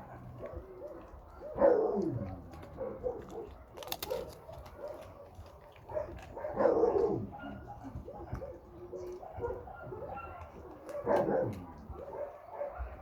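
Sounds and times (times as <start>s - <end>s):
dogs barking and whining: 0.0s - 13.0s.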